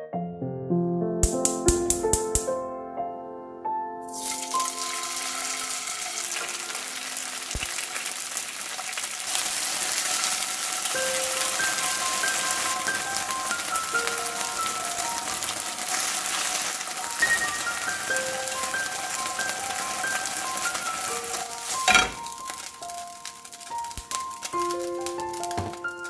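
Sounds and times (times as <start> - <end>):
background music melody: 0.0 - 7.5, 10.3 - 26.0
food sizzling in hot oil: 4.1 - 26.0.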